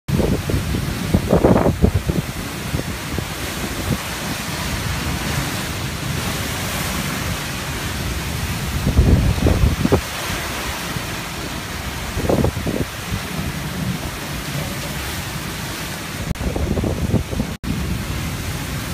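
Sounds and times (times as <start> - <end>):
heavy rain: 0.1 - 18.9
wind gusts: 0.1 - 18.9.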